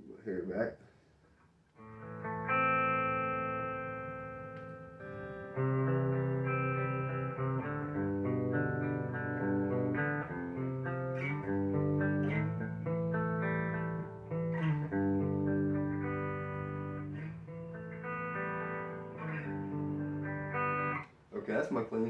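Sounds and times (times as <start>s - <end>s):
clean electric guitar: 1.4s - 22.0s.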